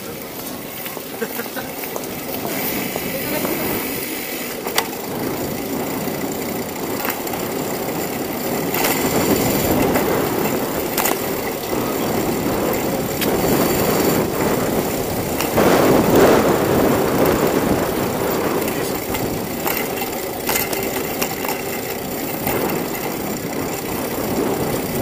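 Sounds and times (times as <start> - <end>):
bicycle clicks and rattles: 0.0 - 25.0
road and wind noise: 0.0 - 25.0.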